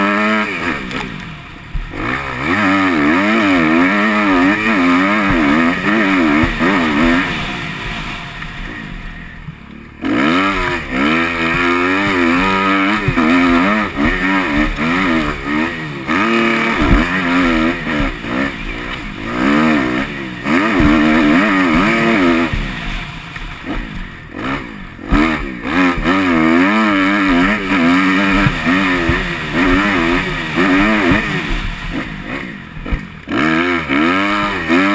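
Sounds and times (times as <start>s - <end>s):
motocross bike engine revving: 0.0s - 34.9s.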